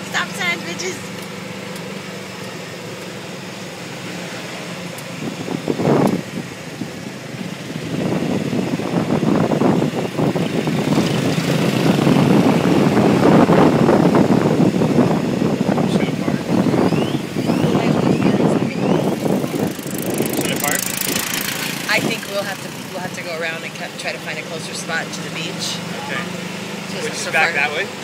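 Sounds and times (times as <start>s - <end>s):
golf cart hum: 0.0s - 28.0s
road and wind noise: 0.0s - 28.0s.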